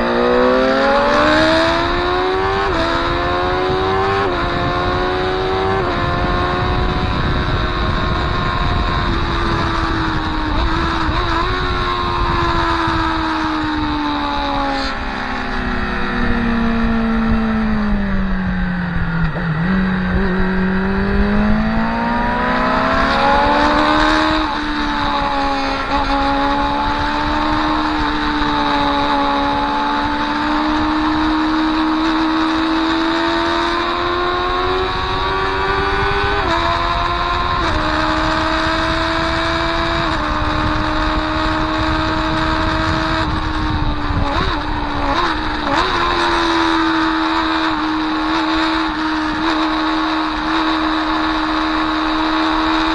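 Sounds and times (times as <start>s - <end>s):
motorcycle engine accelerating: 0.0s - 52.9s
wind rushing: 0.0s - 52.9s.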